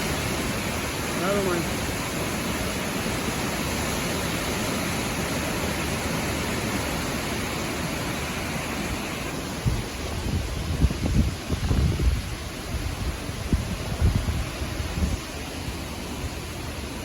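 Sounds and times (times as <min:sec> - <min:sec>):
heavy rain and wind: 0:00.0 - 0:17.0
wind gust on microphone: 0:00.0 - 0:17.0.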